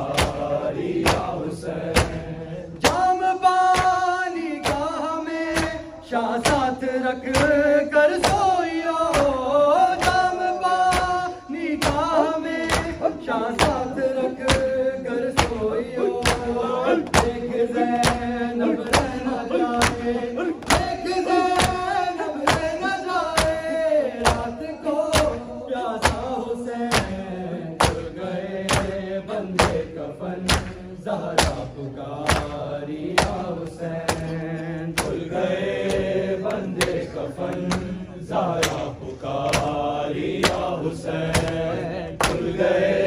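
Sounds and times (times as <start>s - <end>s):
hands slapping bare chests: 0.0s - 3.1s, 3.7s - 5.8s, 7.3s - 7.6s, 8.2s - 8.5s, 9.1s - 24.5s, 26.0s - 27.2s, 27.8s - 42.6s
men chanting mournfully: 0.0s - 43.0s.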